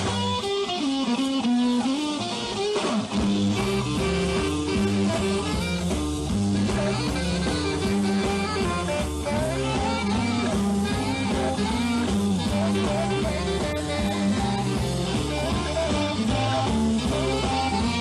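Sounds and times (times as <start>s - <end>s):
bass line: 0.0s - 18.0s
electric guitar lead: 0.0s - 18.0s.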